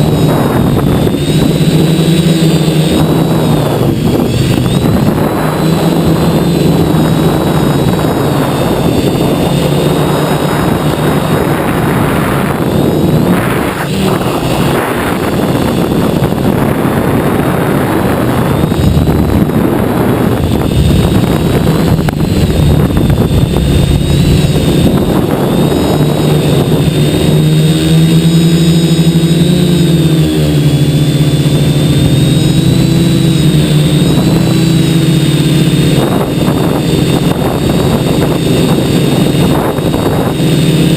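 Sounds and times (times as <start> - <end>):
drone motors buzzing: 0.0 - 40.9
wind noise: 0.0 - 40.9.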